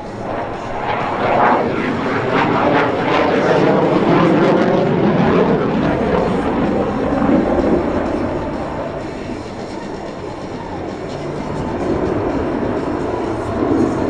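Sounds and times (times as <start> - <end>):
fighter jet flying by: 0.0 - 14.0.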